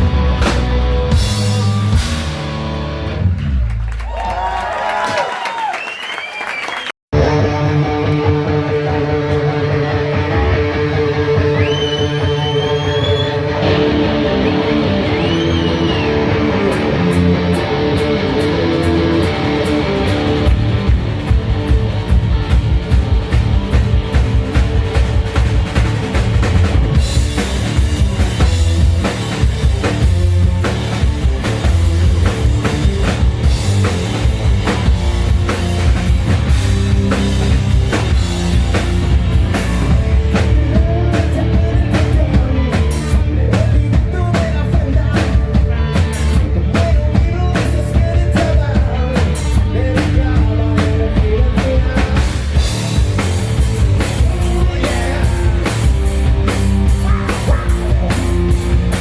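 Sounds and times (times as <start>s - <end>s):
electric guitars: 0.0s - 3.8s, 7.2s - 59.0s
drum kit: 0.0s - 5.6s, 7.1s - 59.0s.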